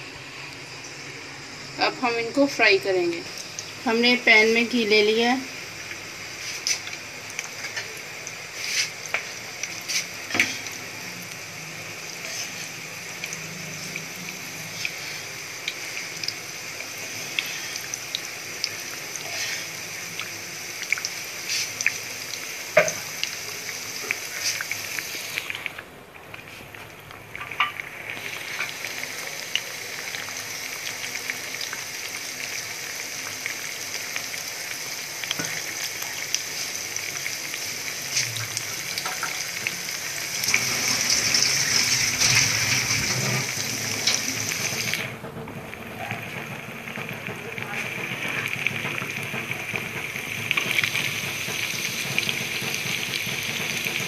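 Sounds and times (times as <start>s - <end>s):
frying sizzle: 0.0s - 54.0s
sharp crackles in hot oil: 0.1s - 54.0s.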